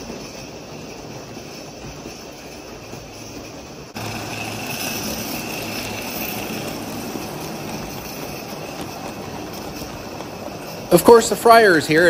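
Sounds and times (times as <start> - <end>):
steam locomotive running: 0.0 - 12.0
wheels rolling on track: 0.0 - 12.0.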